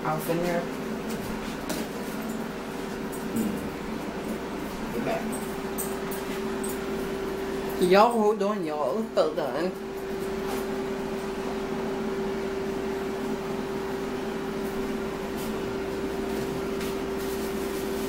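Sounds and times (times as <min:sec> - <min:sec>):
air fryer humming: 0:00.0 - 0:18.0.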